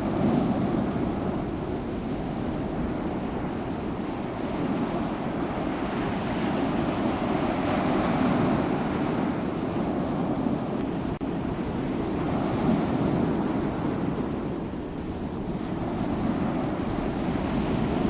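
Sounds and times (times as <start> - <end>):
sea waves breaking: 0.0 - 18.0.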